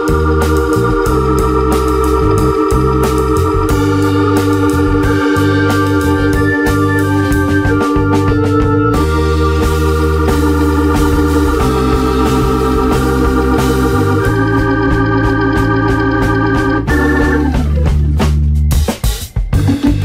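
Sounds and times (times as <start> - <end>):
organ-like keyboard chords: 0.0 - 20.0
steady beat: 0.0 - 20.0.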